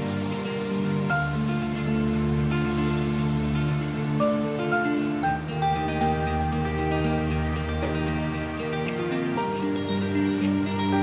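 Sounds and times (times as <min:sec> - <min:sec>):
rain-like hiss: 0:00.0 - 0:11.0
soft music of slow held chords: 0:00.0 - 0:11.0.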